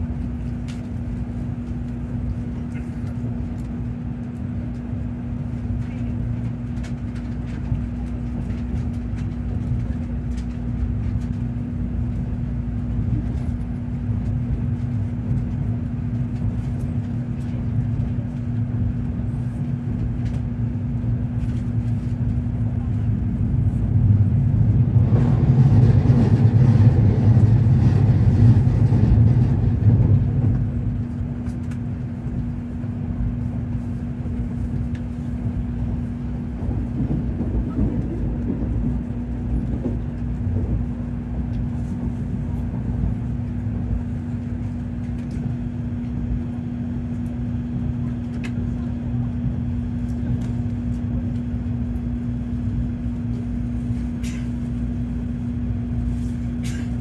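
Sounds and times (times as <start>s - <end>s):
train cabin rumble and hum: 0.0s - 57.0s.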